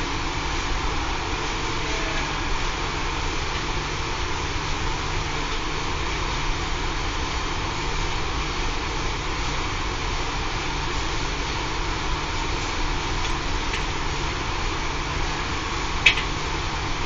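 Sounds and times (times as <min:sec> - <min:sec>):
circulation pump droning: 0:00.0 - 0:17.0.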